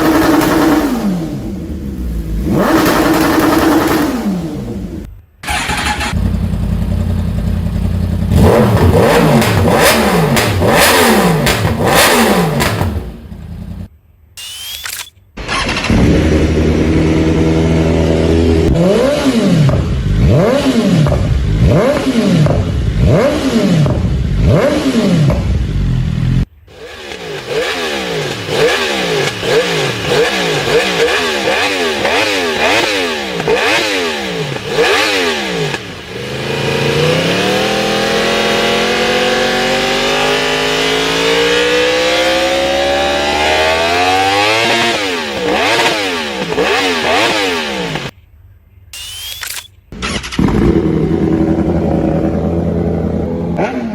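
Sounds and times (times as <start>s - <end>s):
motorcycle engine revving: 0.0s - 48.1s, 49.0s - 53.9s.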